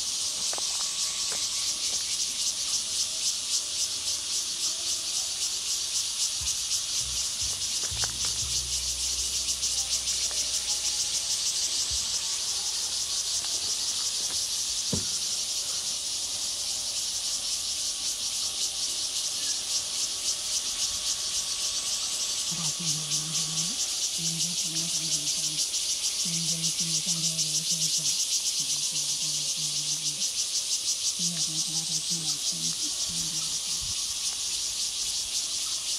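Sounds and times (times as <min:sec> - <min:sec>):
cicadas buzzing: 0:00.0 - 0:35.9.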